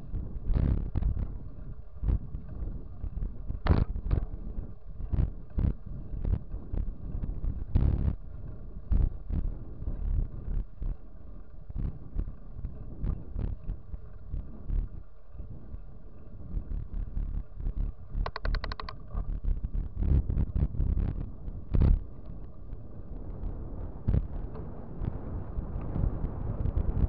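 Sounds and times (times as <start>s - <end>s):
wind rushing over microphone: 0.0s - 27.0s
bike rattling over bumps: 0.5s - 27.0s.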